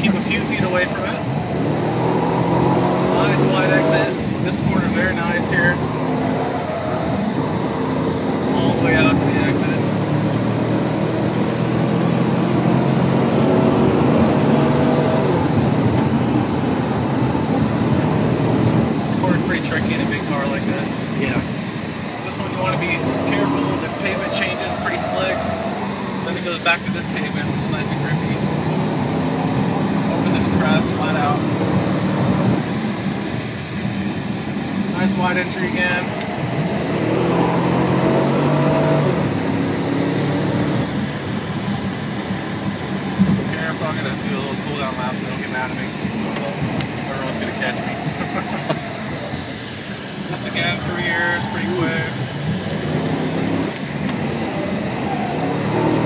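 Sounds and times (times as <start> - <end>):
car engine pulling hard: 0.0 - 56.0
road and tyre noise: 0.0 - 56.0.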